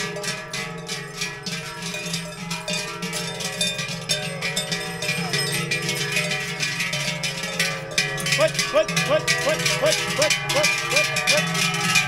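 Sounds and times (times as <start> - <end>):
cowbells clanging: 0.0 - 12.0.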